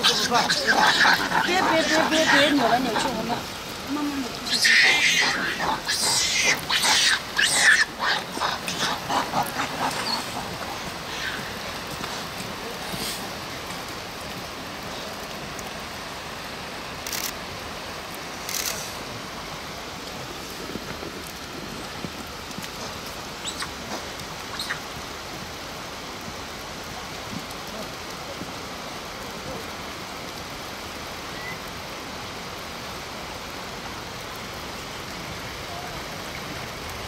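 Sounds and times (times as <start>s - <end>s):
rushing outdoor noise: 0.0s - 37.0s.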